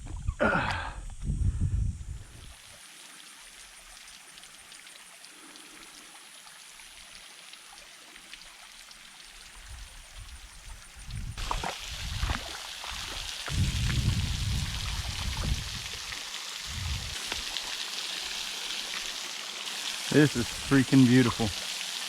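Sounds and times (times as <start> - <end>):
faint water drips: 2.4 - 22.0
waterfall trickling and splashing: 2.4 - 22.0.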